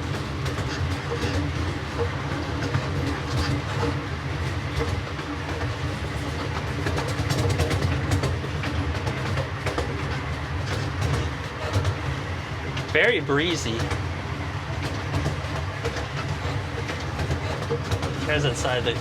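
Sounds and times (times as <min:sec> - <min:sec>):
miniature train rumbling: 0:00.0 - 0:19.0
wheels clicking on rails: 0:00.0 - 0:19.0.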